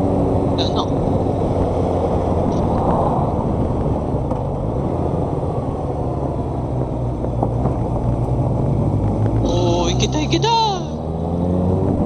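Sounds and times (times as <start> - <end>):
wind rushing on microphone: 0.0 - 10.2.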